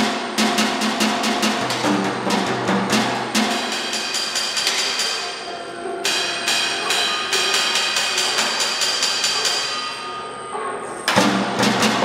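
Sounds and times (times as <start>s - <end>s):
rapid percussion strikes: 0.0s - 10.3s, 11.1s - 12.0s
ringing tones: 1.3s - 12.0s.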